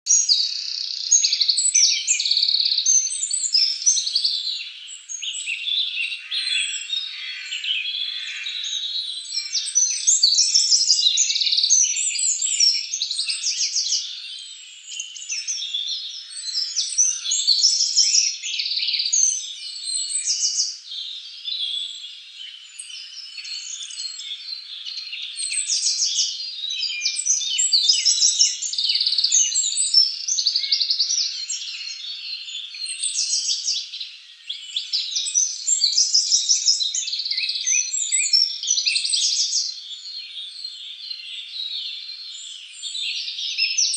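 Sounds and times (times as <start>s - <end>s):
birds chirping and trilling: 0.1s - 43.9s.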